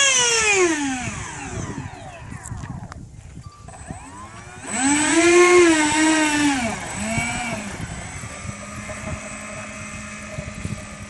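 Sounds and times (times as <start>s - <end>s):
model jet ducted fans whining: 0.0s - 11.0s.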